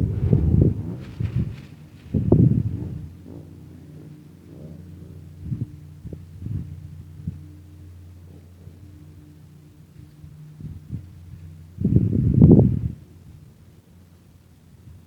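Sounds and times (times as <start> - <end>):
idling vehicle engine hum: 0.0 - 15.0
wind buffeting microphone: 0.0 - 15.0.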